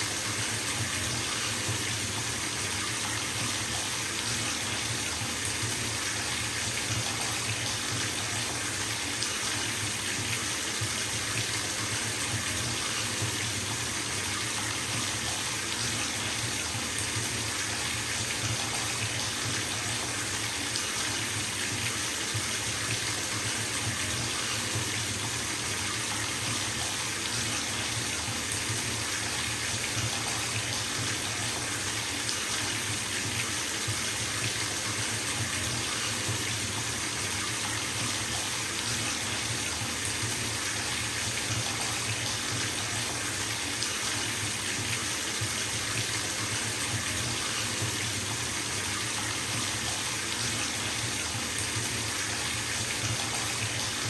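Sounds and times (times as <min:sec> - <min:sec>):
water running from tap into tub: 0:00.0 - 0:54.0.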